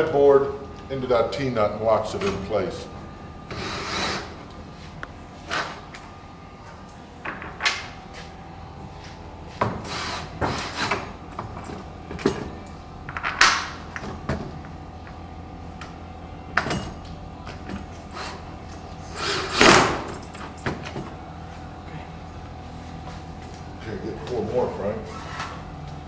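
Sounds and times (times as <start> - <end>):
wall fan humming: 0.0 - 26.0.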